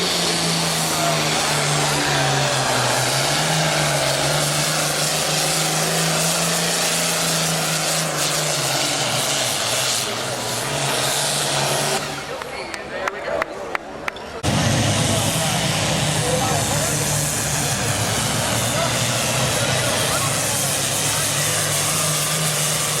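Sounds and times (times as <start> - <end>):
diesel engine running at high revs: 0.0 - 23.0.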